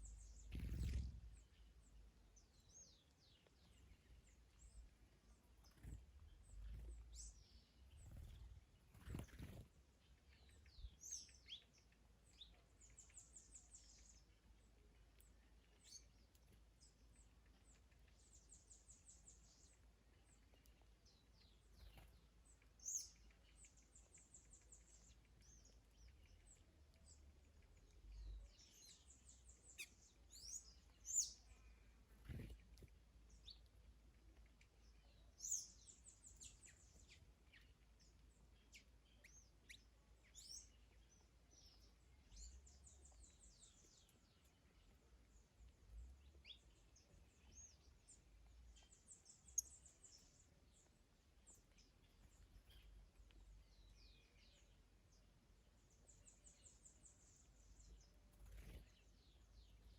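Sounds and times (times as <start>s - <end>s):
faint birdsong: 0.0s - 59.9s.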